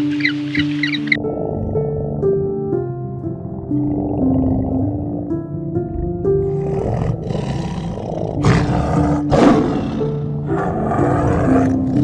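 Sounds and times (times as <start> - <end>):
big cat roaring: 1.2 - 12.0.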